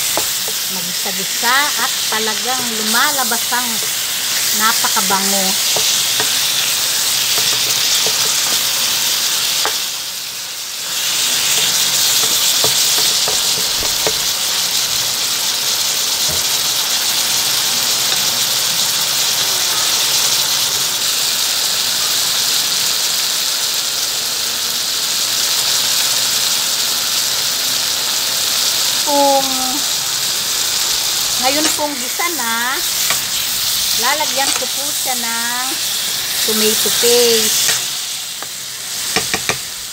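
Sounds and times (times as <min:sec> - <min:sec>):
meat and onions sizzling in a pan: 0:00.0 - 0:39.9.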